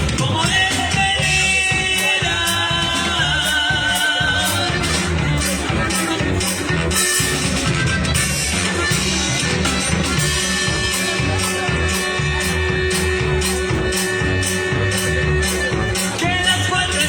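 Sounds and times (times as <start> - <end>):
band playing instrumental: 0.0 - 17.0.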